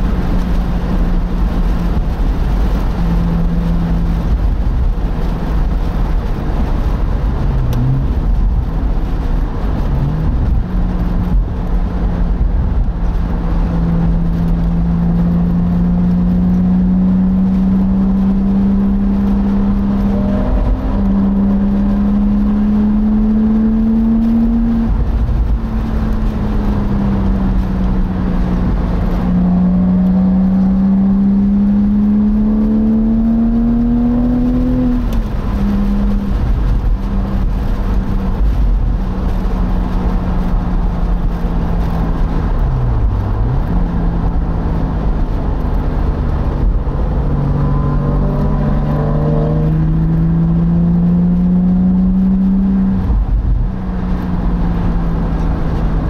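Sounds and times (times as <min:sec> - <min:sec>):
low rumble: 0:00.0 - 0:56.0
sports car engine accelerating: 0:00.0 - 0:56.0.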